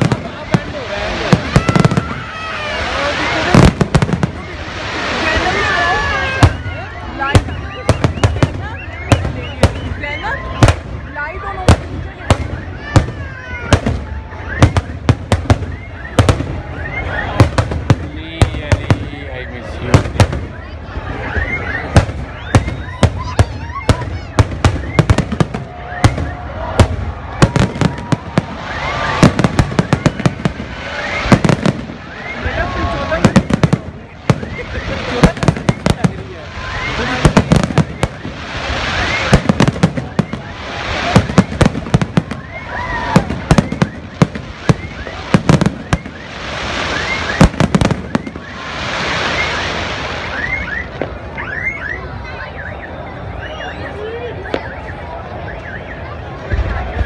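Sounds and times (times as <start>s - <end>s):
fireworks bursting with sharp bangs: 0.0s - 52.1s, 54.4s - 55.0s, 55.6s - 57.0s.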